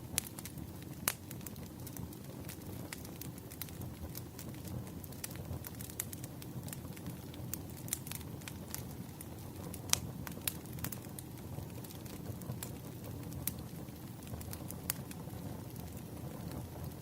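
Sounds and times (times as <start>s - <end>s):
wood crackling and popping: 0.0s - 17.0s
flames rushing: 0.1s - 17.0s.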